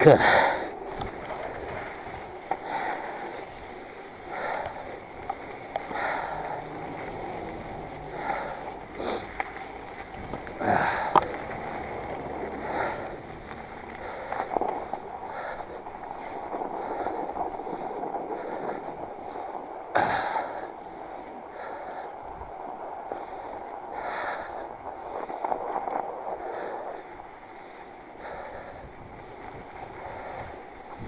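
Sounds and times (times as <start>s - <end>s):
bike tyres rolling through snow: 0.0s - 31.0s
rider breathing hard: 0.0s - 31.0s.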